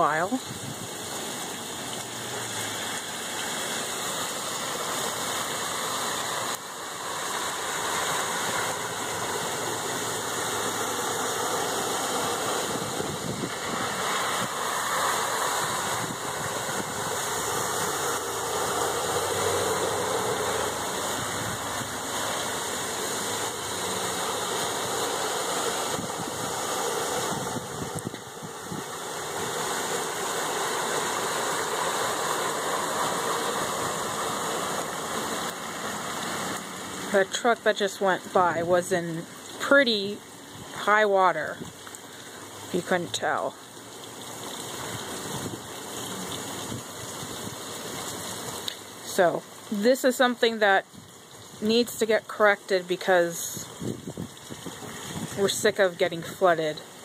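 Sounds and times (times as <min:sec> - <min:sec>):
heavy rain: 0:00.0 - 0:57.0
running water: 0:00.0 - 0:57.0
truck engine driving through water: 0:00.0 - 0:57.0.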